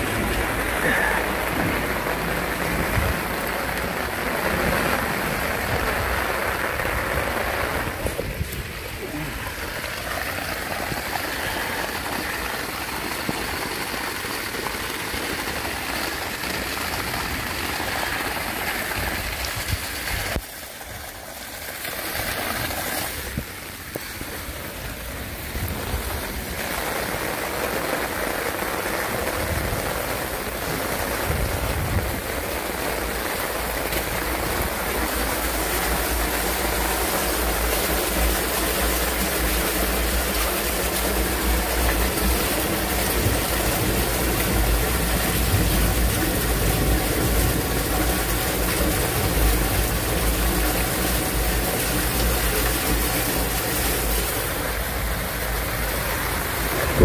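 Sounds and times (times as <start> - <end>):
rushing water: 0.0 - 57.0
torrential rain pouring: 0.0 - 57.0.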